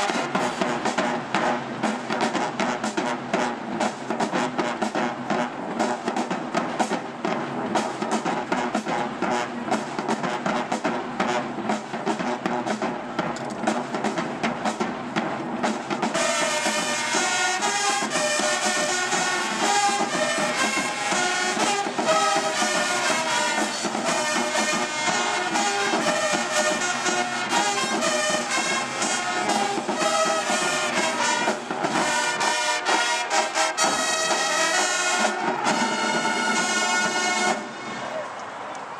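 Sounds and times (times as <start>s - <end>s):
trombones and trumpets: 0.0s - 38.6s
marching band playing: 0.0s - 38.7s
drums: 0.0s - 38.9s.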